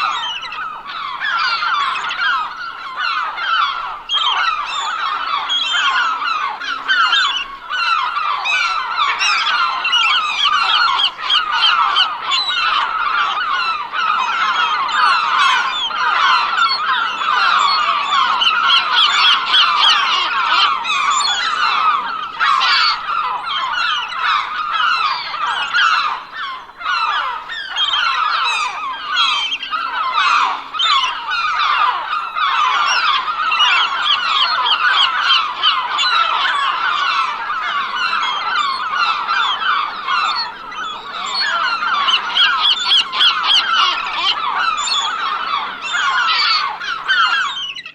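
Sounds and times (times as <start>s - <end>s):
gulls squawking: 0.0s - 47.9s.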